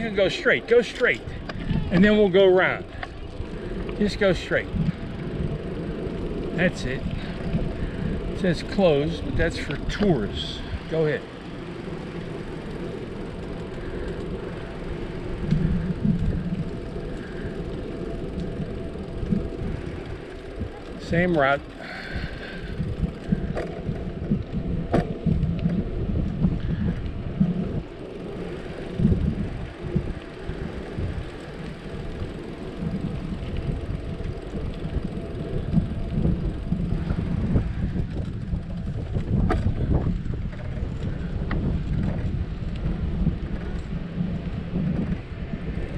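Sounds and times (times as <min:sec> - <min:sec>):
tyres rolling on asphalt: 0:00.0 - 0:45.9
wind buffeting microphone: 0:00.0 - 0:45.9.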